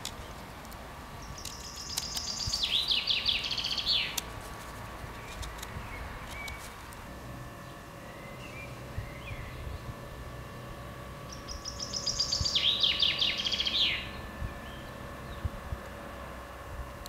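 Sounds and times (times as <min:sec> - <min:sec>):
songbird singing: 0:01.1 - 0:04.3, 0:05.0 - 0:16.2.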